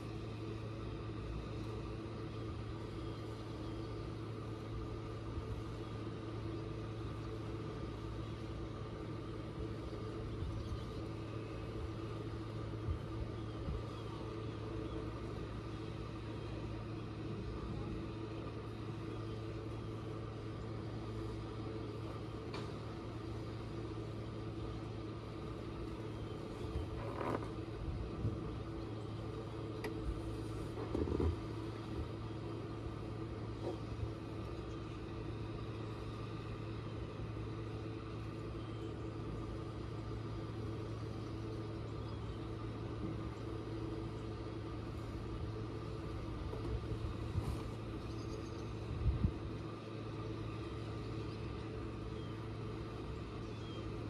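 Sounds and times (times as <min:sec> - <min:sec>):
boat engine idling: 0:00.0 - 0:54.0.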